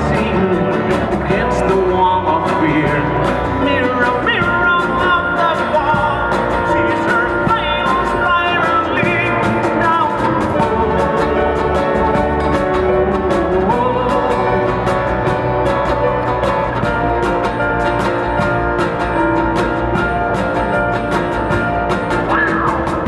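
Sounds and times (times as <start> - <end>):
acoustic band playing: 0.0 - 23.0.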